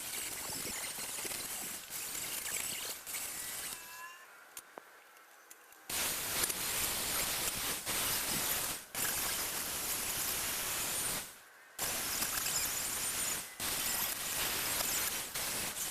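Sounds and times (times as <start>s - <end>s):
steady spraying hiss: 0.0s - 3.8s, 5.9s - 15.9s.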